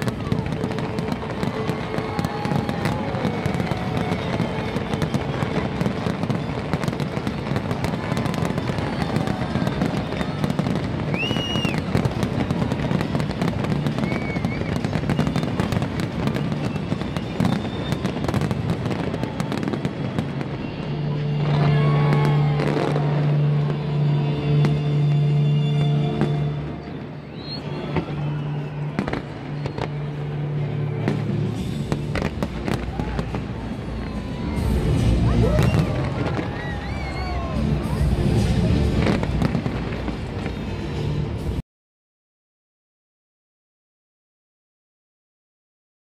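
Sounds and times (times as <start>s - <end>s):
fireworks bangs and crackling: 0.0s - 41.6s
music: 0.0s - 41.6s.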